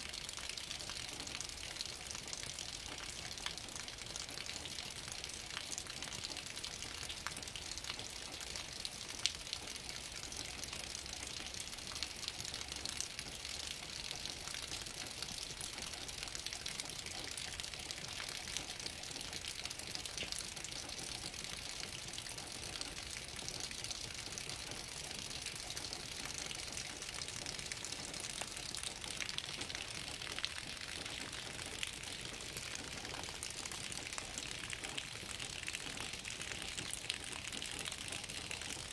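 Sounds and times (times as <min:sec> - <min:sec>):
raindrops ticking close by: 0:00.0 - 0:38.9
steady rain hiss: 0:00.0 - 0:38.9.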